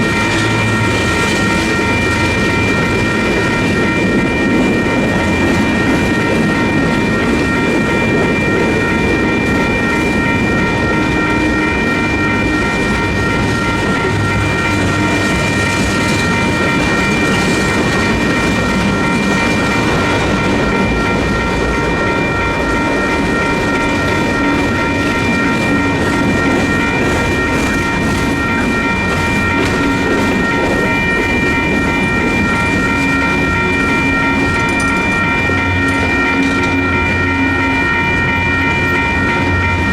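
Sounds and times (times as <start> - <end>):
crossing warning bells: 0.0 - 39.9
freight train rumbling: 0.0 - 39.9.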